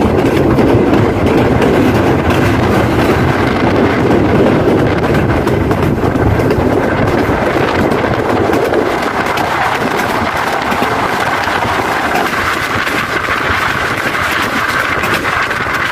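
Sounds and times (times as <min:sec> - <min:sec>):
rushing air: 0:00.0 - 0:15.9
train wheels clattering on rails: 0:00.0 - 0:15.9.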